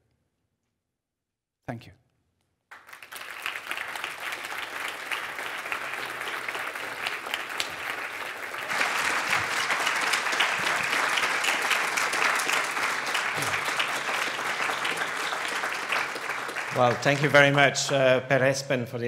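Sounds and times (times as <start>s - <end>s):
audience applauding: 2.7s - 18.8s.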